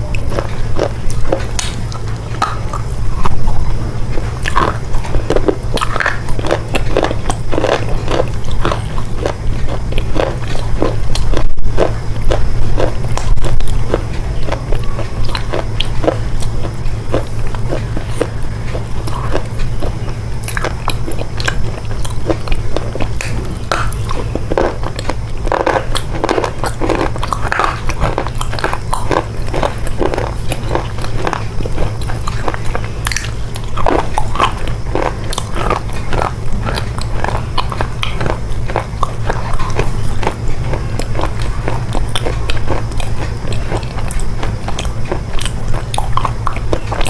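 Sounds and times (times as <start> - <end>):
low hum: 0.0 - 47.0
wet chewing of chocolate: 0.0 - 47.0.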